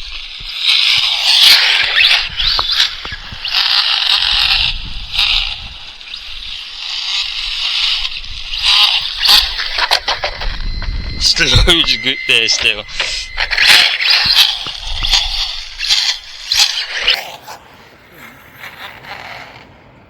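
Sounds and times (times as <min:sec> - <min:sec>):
electric motor whining: 0:00.0 - 0:17.2.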